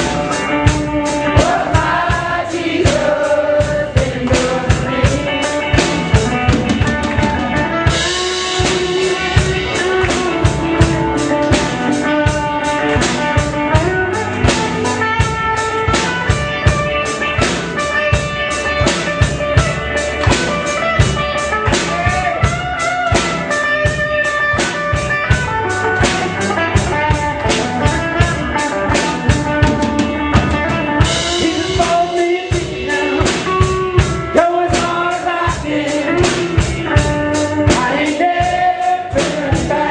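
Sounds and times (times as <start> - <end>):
bass line: 0.0 - 39.9
drum kit beat with cymbals: 0.0 - 39.9
guitar: 0.0 - 39.9.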